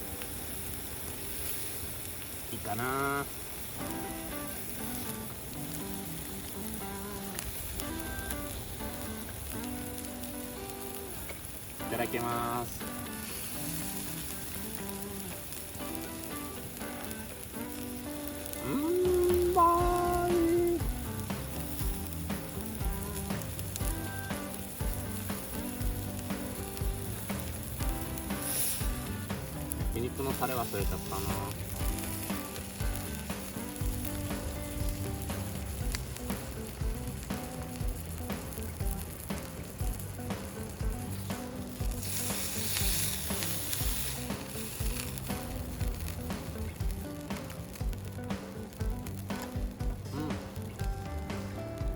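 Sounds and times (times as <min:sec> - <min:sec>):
meat sizzling on a griddle: 0:00.0 - 0:51.9
background music with soft beat: 0:03.8 - 0:51.9.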